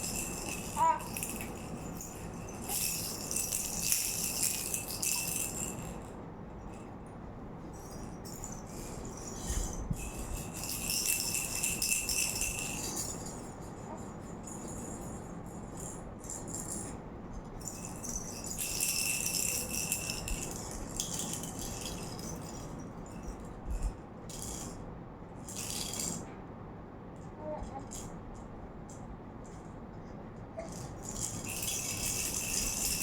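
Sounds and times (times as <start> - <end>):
baby rattle shaking: 0.0 - 7.0, 7.7 - 24.8, 25.4 - 26.3, 27.4 - 29.1, 30.6 - 33.0.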